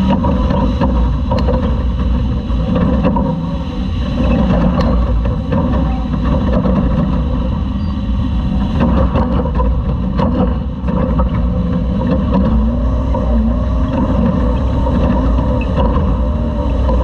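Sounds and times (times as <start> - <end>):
race truck engine running hard: 0.0 - 17.0
truck rumble and rattle: 0.0 - 17.0.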